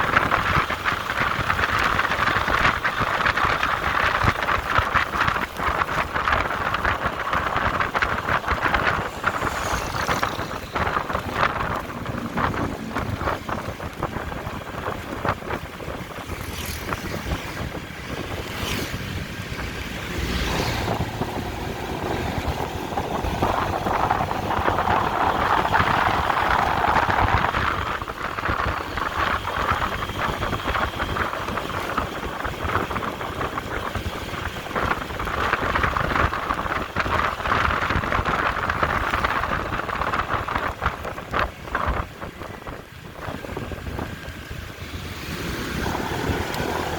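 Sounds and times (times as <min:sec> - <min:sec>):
vehicle driving on road: 0:00.0 - 0:46.9
wind buffeting microphone: 0:00.0 - 0:46.9.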